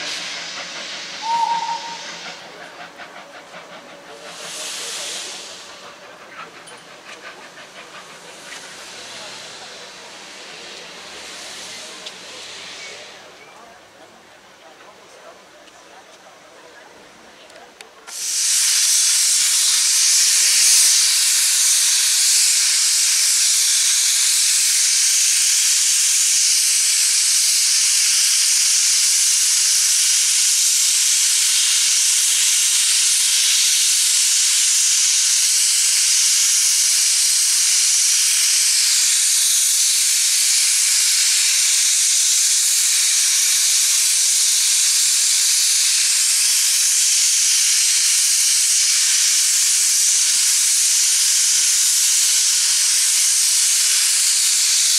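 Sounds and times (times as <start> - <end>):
steam locomotive venting steam: 0.0 - 54.9.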